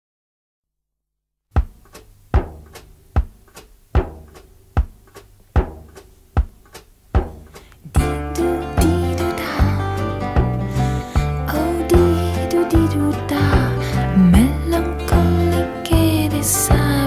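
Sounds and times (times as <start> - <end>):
deep drum beat: 1.5 - 16.9
music: 1.6 - 6.6, 7.2 - 17.0.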